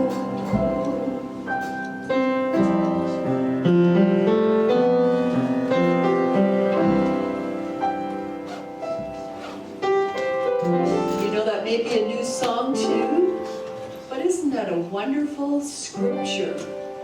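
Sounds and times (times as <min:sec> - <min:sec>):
piano playing sustained chords: 0:00.0 - 0:17.0.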